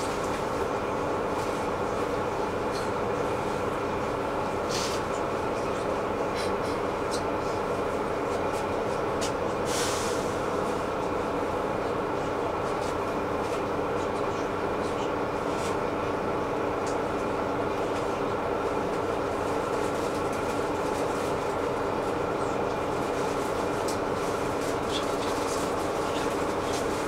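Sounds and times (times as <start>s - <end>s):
bus drivetrain and tyre drone: 0.0s - 27.0s.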